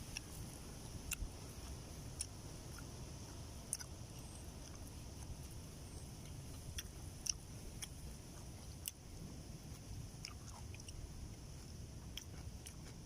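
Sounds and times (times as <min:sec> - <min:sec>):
person chewing and biting: 0:00.0 - 0:13.0.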